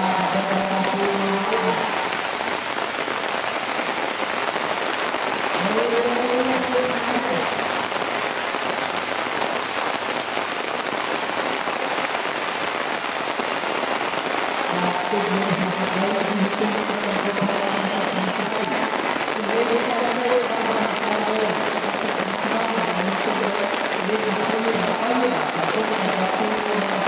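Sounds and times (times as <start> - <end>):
heavy rain on water: 0.0 - 27.0.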